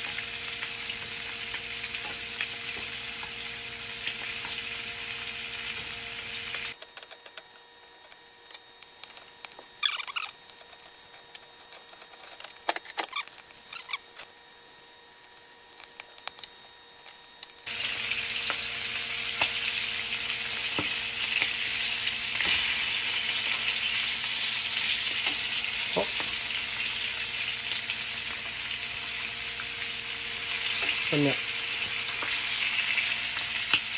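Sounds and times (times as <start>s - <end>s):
loud sizzle of frying: 0.0s - 33.9s.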